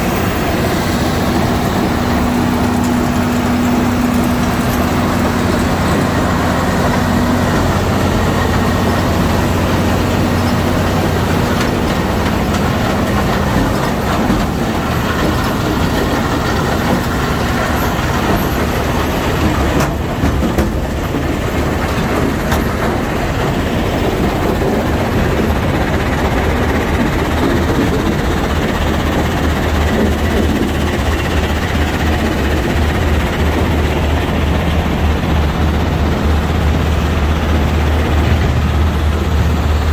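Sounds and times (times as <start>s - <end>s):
heavy machine drone: 0.0s - 39.9s.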